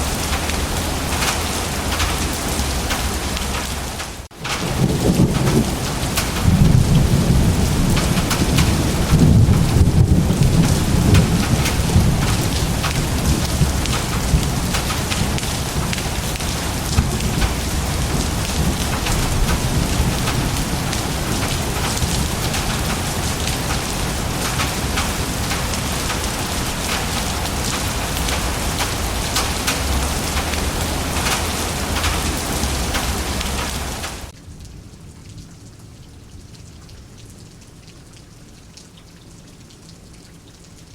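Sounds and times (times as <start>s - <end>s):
low rumble of thunder: 0.0s - 36.7s
heavy rain falling: 0.0s - 40.9s.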